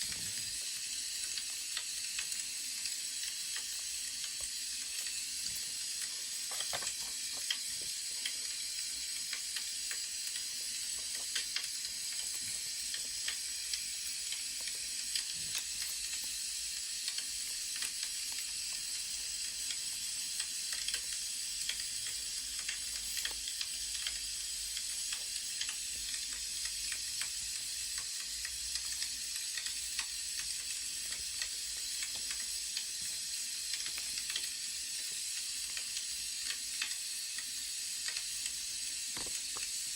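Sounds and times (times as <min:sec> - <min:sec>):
wood fire crackling: 0:00.0 - 0:38.6.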